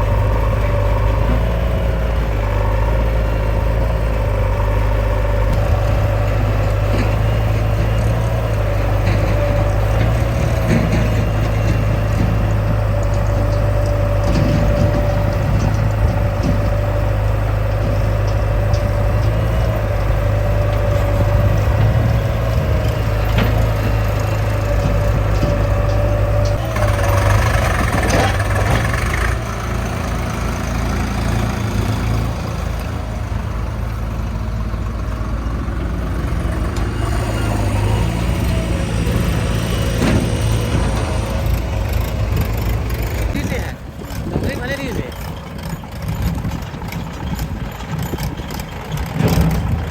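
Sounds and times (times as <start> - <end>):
heavy diesel engine running: 0.0 - 49.9
louder rough engine noise: 0.0 - 49.9.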